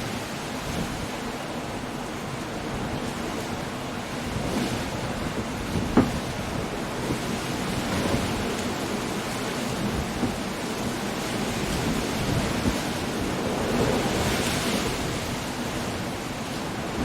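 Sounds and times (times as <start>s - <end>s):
gusting wind: 0.0s - 17.0s
waves breaking: 0.0s - 17.0s.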